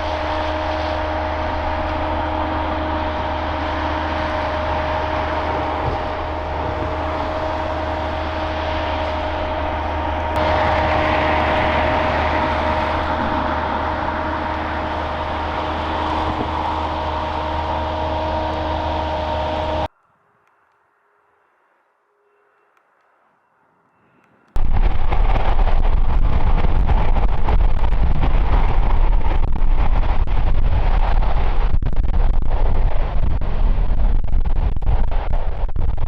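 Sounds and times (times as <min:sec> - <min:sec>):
jet engine whine: 0:00.0 - 0:19.9, 0:21.0 - 0:36.0
broad rush and low hum: 0:00.0 - 0:20.4, 0:24.6 - 0:36.0.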